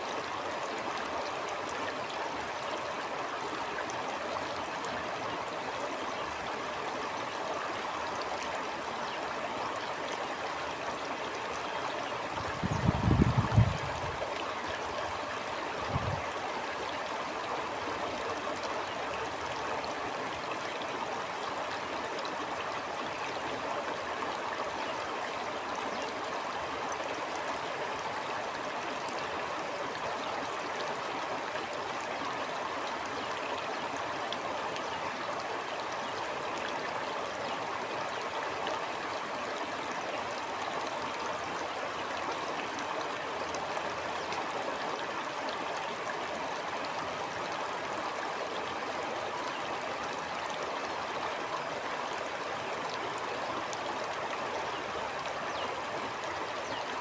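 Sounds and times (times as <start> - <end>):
stream flowing and gurgling: 0.0 - 57.0.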